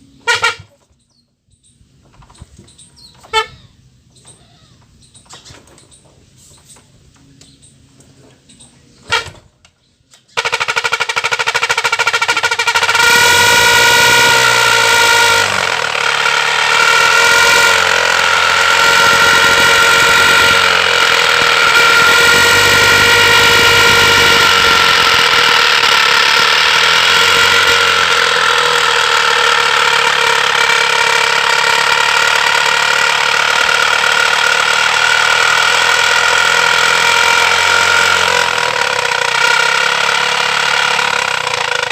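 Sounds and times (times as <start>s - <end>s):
motorcycle exhaust buzzing tone: 0.0s - 6.0s, 7.0s - 41.9s.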